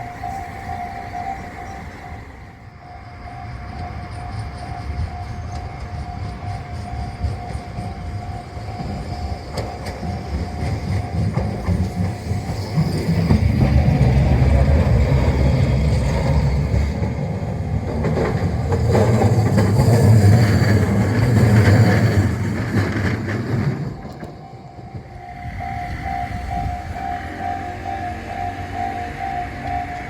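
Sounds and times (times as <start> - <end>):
streetcar wheels rumbling on rails: 0.0 - 30.0
wheel squeal: 3.4 - 16.9, 18.3 - 30.0.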